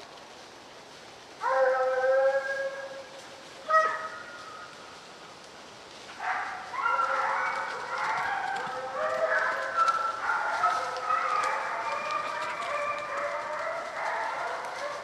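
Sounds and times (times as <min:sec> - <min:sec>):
hounds baying: 0:01.4 - 0:04.8, 0:06.2 - 0:15.0.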